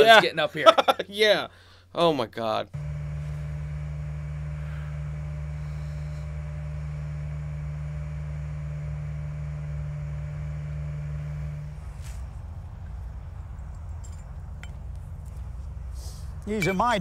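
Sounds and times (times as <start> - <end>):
crane engine low drone: 2.8 - 17.0.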